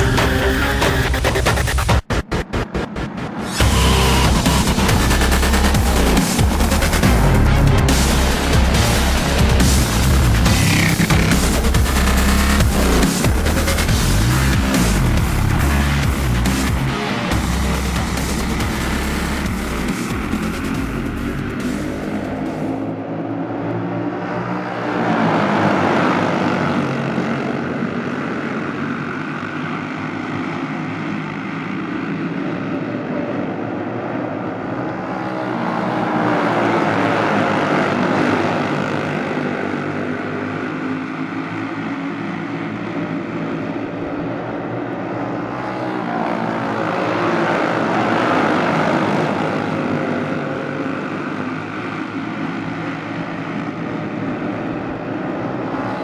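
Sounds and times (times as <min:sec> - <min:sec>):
racing kart engines passing: 0:02.4 - 0:56.0.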